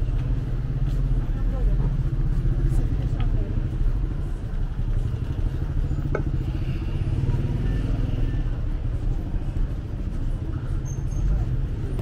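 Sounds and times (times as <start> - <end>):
motor vehicle engines rumbling: 0.0 - 12.0
motorcycle: 0.0 - 12.0.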